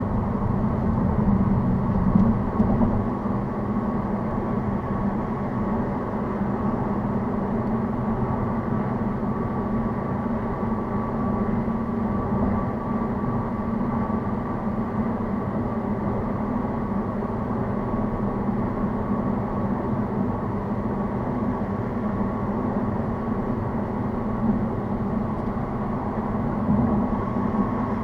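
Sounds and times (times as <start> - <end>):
car driving at speed: 0.0 - 28.0
faint steady whine: 0.0 - 28.0.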